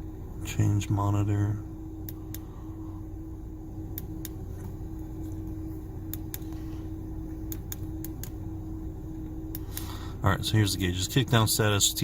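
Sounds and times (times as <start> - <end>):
low hum inside truck cab: 0.0 - 12.0.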